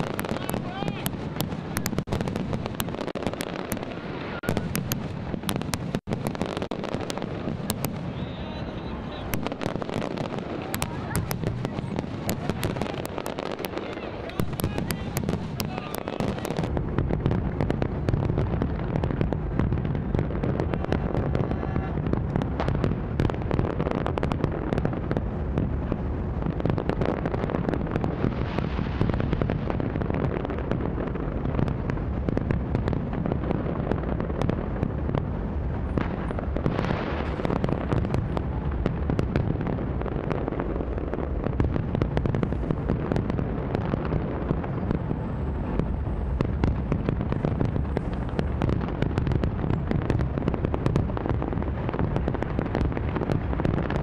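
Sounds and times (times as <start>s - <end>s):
fireworks crackling and bursting: 0.0s - 54.0s.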